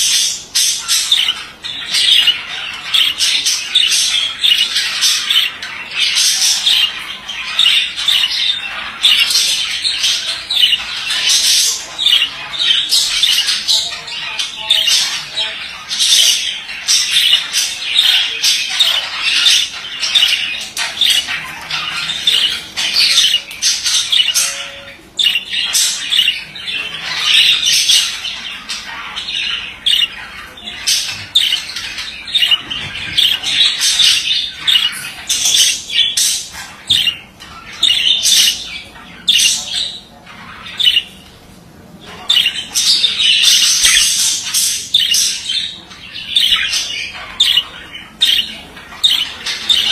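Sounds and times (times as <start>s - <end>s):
budgerigar warbling and chattering: 0.0s - 49.9s.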